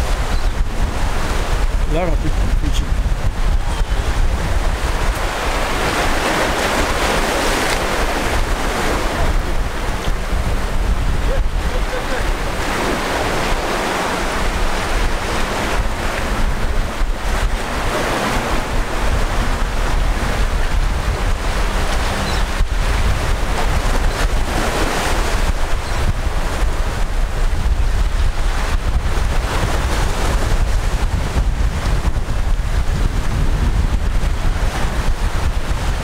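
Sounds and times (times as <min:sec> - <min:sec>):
ocean surf: 0:00.0 - 0:36.0
wind buffeting microphone: 0:00.0 - 0:36.0.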